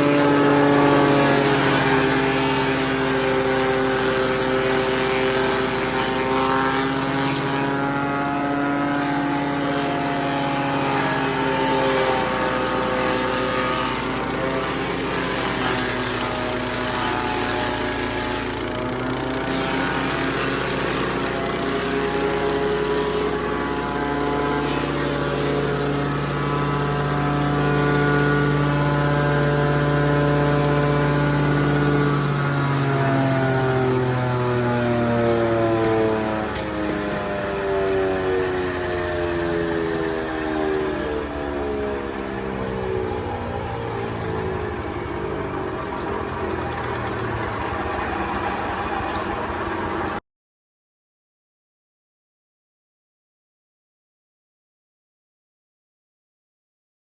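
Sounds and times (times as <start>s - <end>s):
grass chopper machine running: 0.0s - 50.2s.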